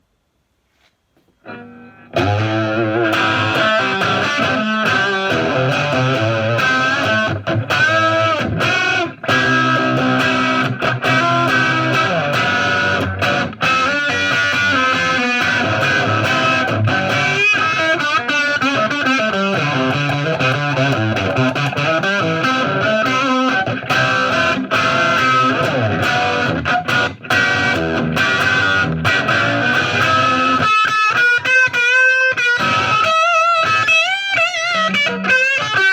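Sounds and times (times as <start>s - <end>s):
overdriven electric guitar rock jam: 1.4s - 35.9s.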